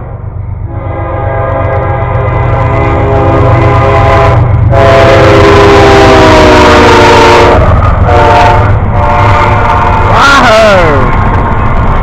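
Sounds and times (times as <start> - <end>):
low engine rumble: 0.0 - 12.0
locomotive air horn blasts: 0.7 - 10.5.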